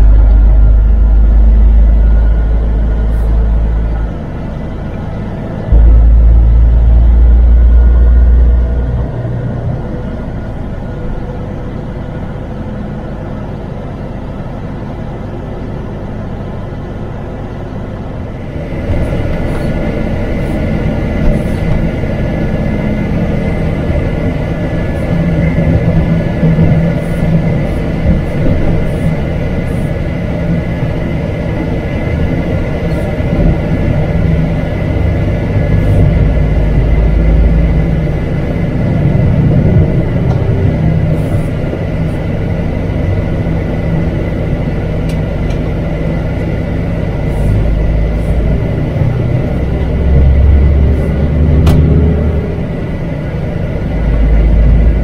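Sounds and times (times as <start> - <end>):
road rumble: 0.0 - 55.0
truck diesel engine drone: 0.0 - 55.0.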